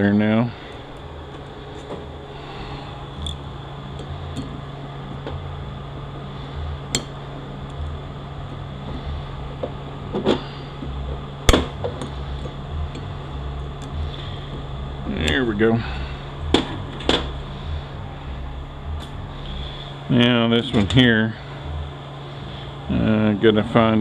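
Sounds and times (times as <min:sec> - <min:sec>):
low shop hum: 0:00.0 - 0:24.0.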